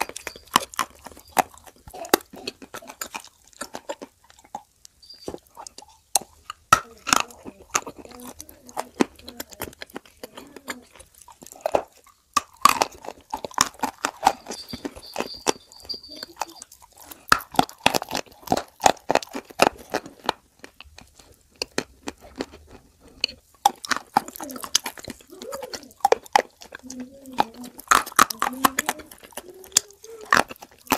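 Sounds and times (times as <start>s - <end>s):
crunching and chewing clay: 0.0s - 30.9s.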